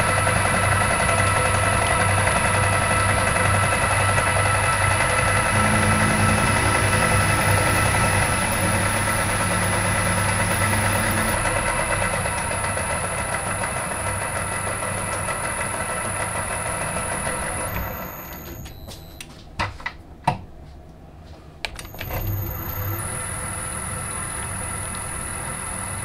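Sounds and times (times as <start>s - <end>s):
metal lathe humming with high whine: 0.0s - 18.9s, 21.9s - 26.0s.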